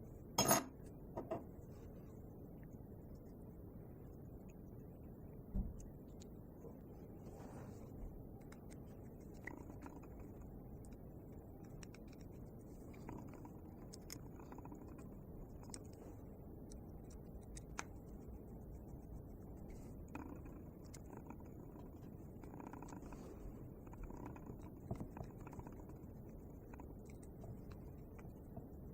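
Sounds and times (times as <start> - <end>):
low background hiss: 0.0 - 28.9.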